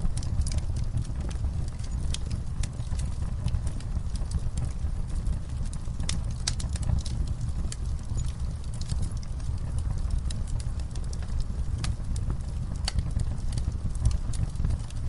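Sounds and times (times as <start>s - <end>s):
fire crackles and pops: 0.0s - 15.0s
wood fire burning: 0.0s - 15.0s.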